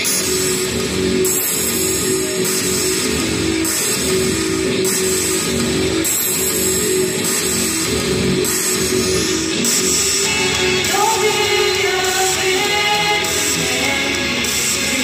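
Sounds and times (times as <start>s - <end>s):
live rock music electric guitar: 0.0s - 15.0s.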